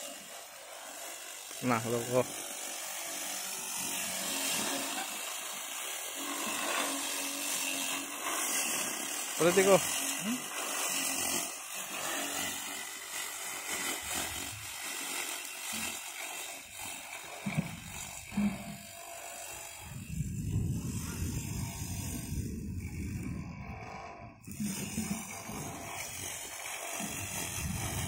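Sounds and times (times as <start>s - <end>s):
electric lawn mower running: 0.0s - 28.0s.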